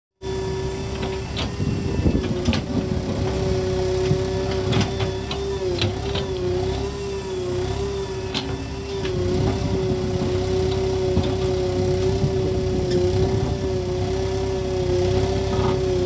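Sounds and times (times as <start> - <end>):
diesel engine humming under load: 0.2 - 16.0.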